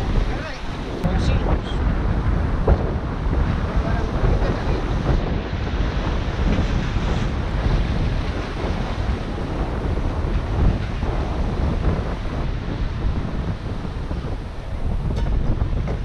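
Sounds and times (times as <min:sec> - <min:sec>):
surf washing against rocks: 0:00.0 - 0:16.0
wind buffeting microphone: 0:00.0 - 0:16.0.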